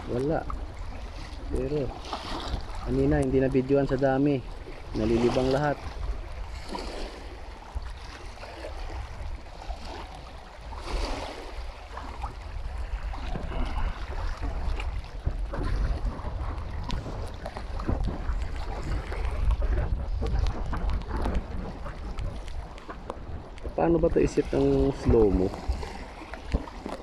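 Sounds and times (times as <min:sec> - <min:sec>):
small waves lapping: 0:00.0 - 0:27.0
wind buffeting microphone: 0:00.0 - 0:27.0.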